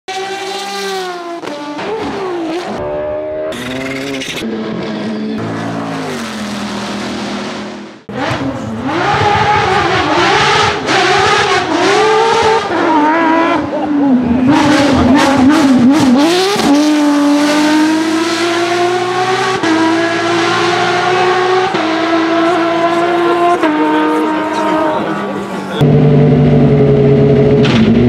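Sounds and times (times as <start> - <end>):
race car engines revving: 0.1 - 28.0
rally car engine at high revs: 0.1 - 28.0.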